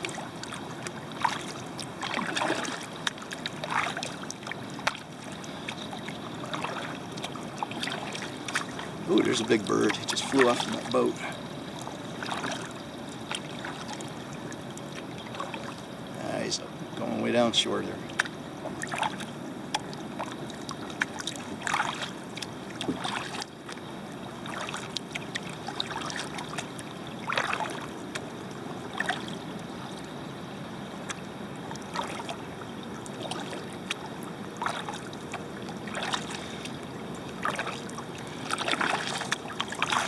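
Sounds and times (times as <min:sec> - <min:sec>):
paddle splashing in water: 0:00.0 - 0:16.4, 0:17.0 - 0:40.0
water washing along hull: 0:00.0 - 0:40.0.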